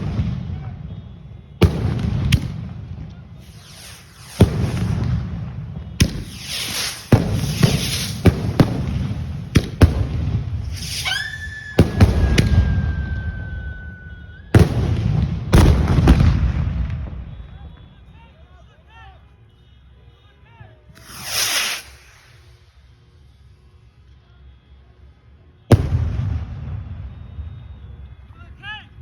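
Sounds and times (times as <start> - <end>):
fireworks bangs and crackling: 0.0 - 18.2, 20.9 - 24.0, 25.2 - 28.8
firework whistle: 0.0 - 18.6, 20.9 - 29.0.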